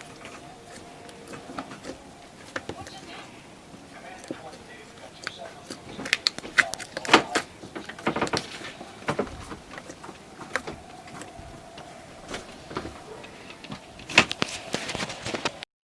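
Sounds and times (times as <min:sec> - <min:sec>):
handling noises: 0:00.0 - 0:15.7.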